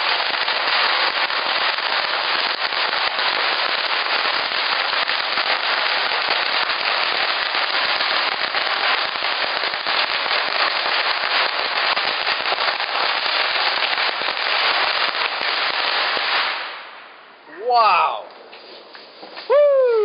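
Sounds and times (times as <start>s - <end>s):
firecrackers crackling: 0.0s - 20.0s.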